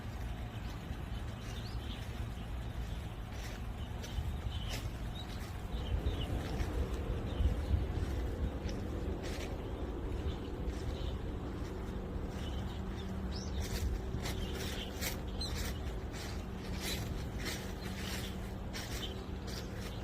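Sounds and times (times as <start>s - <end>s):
footsteps crunching dry leaves: 0.0s - 20.0s
low steady hum: 0.0s - 20.0s.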